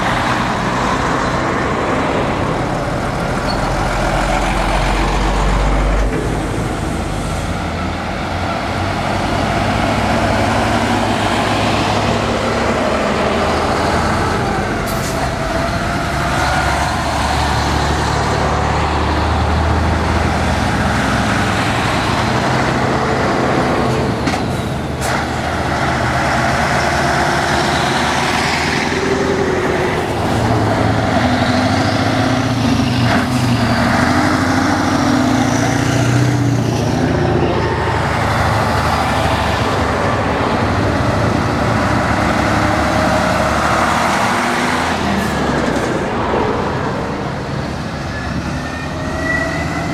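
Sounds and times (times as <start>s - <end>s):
diesel trucks driving past: 0.0s - 49.9s.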